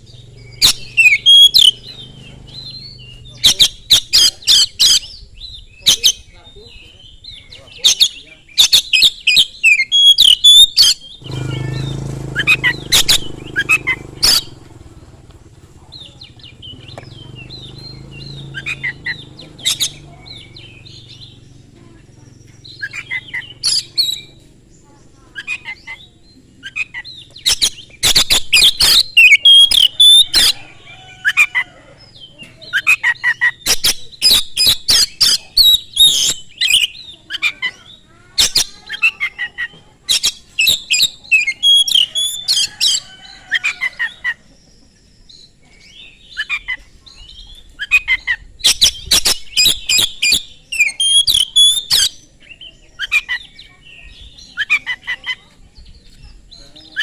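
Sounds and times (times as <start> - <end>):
bird singing whistles and chatter: 0.0 - 15.1, 15.8 - 57.0.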